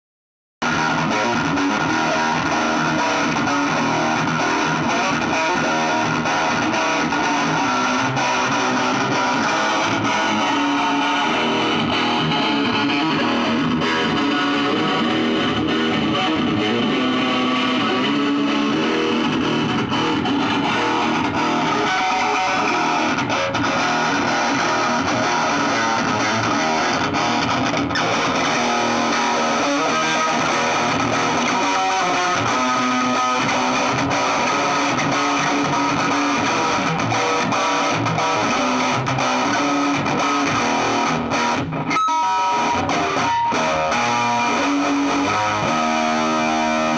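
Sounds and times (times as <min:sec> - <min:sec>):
guitar through amplifier: 0:00.6 - 0:46.9.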